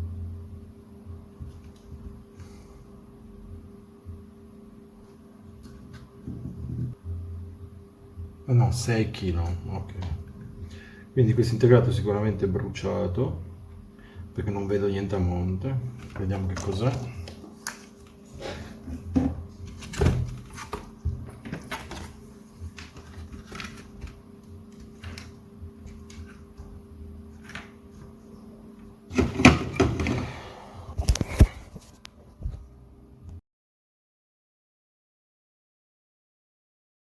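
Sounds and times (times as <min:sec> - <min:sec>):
faint steady hum: 0:00.0 - 0:33.4.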